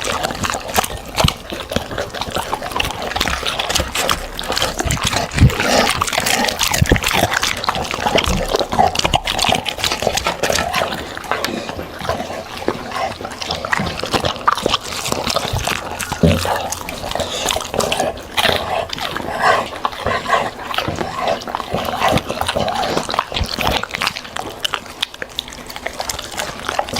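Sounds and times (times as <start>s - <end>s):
dog chewing and smacking: 0.0s - 26.9s.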